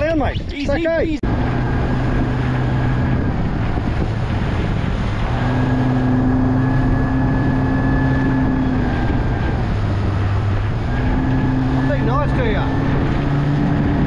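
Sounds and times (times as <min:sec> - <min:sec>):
boat motor running: 0:00.0 - 0:14.0
wind noise on microphone: 0:00.0 - 0:14.0.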